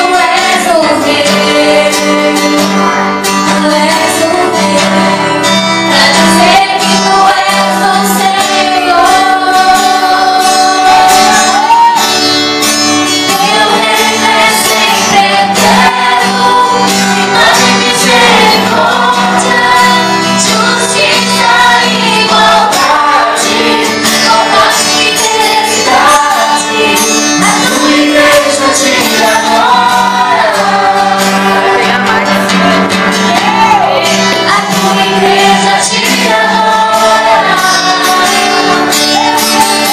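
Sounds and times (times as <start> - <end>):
woman singing into microphone: 0.0 - 12.0, 13.2 - 39.9
amplified instrumental accompaniment: 0.0 - 39.9.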